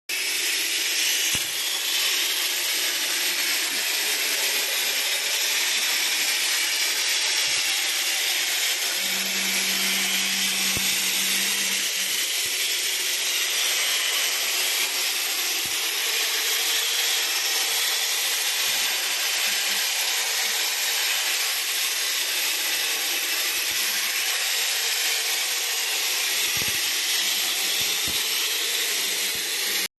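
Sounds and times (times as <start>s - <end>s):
paint sprayer hissing: 0.2s - 3.2s, 3.8s - 29.9s.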